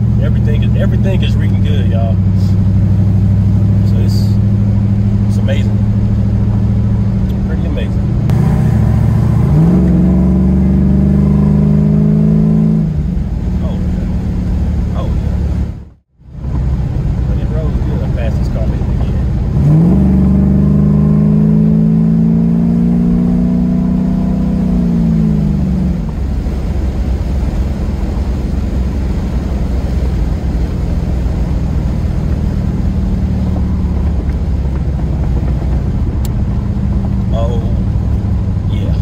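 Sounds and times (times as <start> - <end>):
car engine accelerating hard: 0.0 - 39.0
road noise: 0.0 - 39.0.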